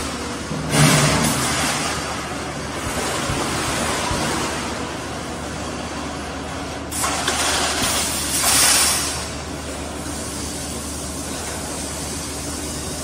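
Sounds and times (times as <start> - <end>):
welding machine humming: 0.0 - 13.0.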